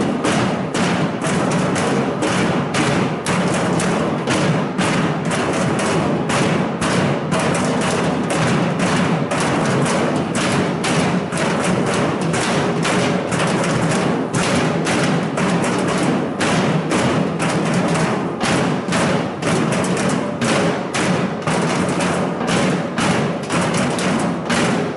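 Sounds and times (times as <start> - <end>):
crowd banging and knocking: 0.0 - 24.9.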